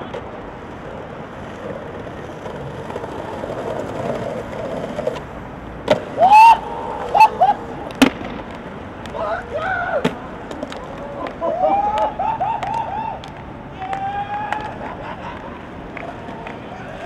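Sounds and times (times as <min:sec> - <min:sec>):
sharp skateboard clack: 0:00.0 - 0:09.2, 0:10.0 - 0:17.0
skateboard wheels rolling on stone: 0:00.0 - 0:17.0.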